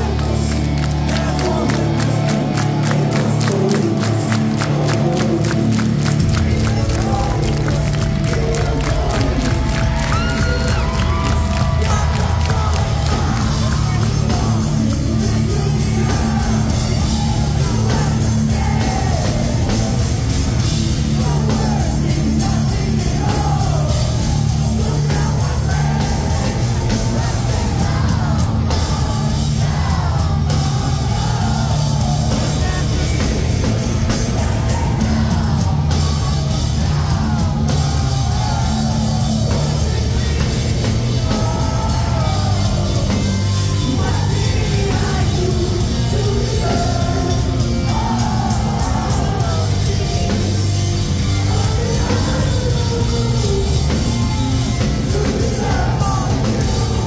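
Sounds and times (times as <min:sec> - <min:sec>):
lead vocalist singing: 0:00.0 - 0:57.0
rock band playing loud: 0:00.0 - 0:57.0.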